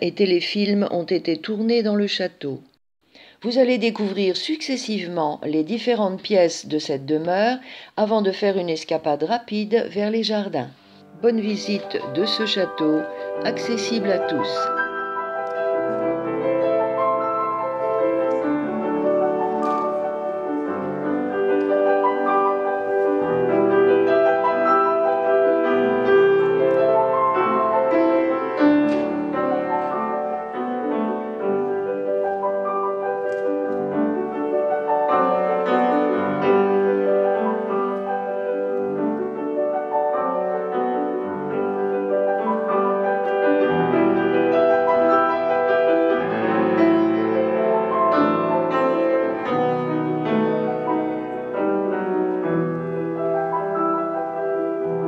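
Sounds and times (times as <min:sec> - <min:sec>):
slow piano piece: 0:10.8 - 0:55.0.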